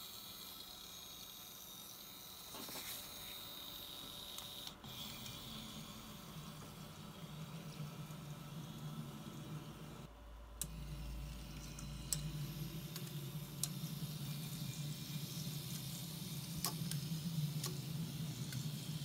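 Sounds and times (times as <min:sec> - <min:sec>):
low steady hum: 0:00.0 - 0:19.0
small electric motor whirring: 0:00.0 - 0:19.0.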